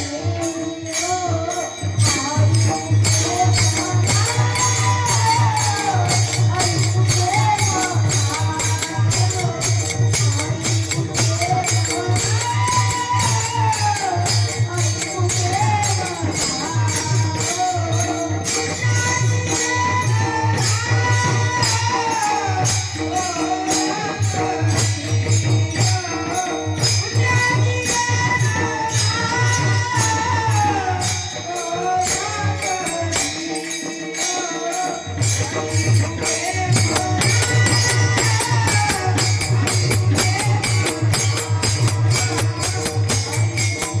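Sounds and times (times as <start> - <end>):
jingling hand cymbals: 0.0 - 44.0
person singing: 0.0 - 44.0.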